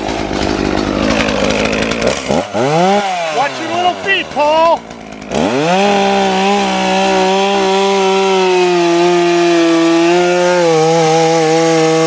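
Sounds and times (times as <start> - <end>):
chainsaw cutting branch: 0.0 - 12.0.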